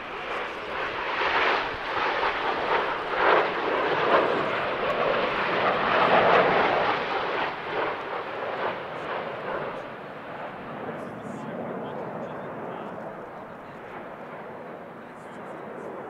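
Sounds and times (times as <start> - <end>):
jet aircraft flying past: 0.0 - 16.0.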